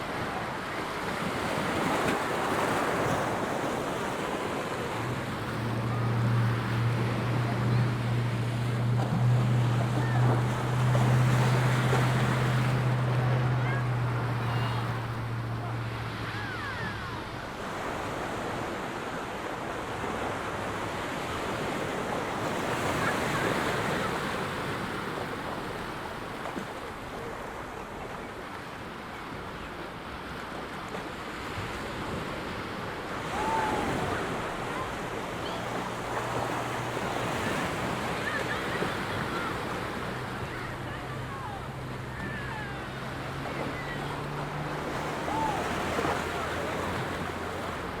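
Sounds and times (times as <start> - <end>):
ocean surf breaking on beach: 0.0 - 48.0.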